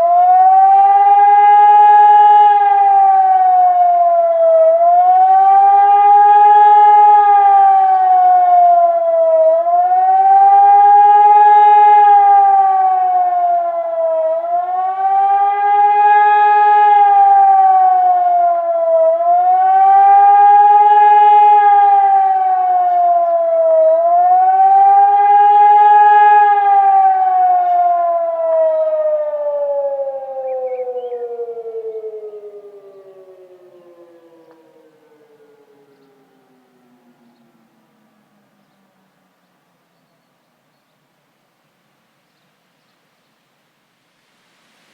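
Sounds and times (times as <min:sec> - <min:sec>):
civil defence siren wailing: 0:00.0 - 0:40.0.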